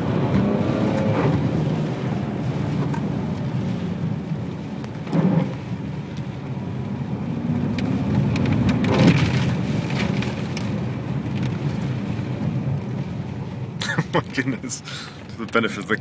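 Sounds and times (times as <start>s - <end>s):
car engine at low revs: 0.0s - 16.0s
wet tyre road noise: 0.0s - 16.0s.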